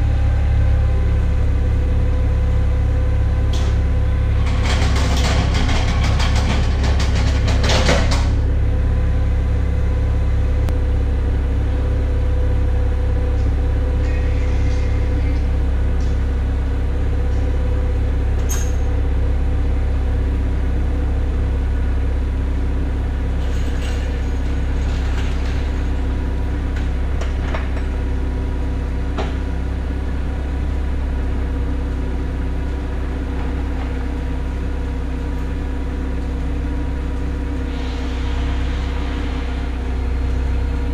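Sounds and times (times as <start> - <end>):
low mechanical drone: 0.0 - 40.9.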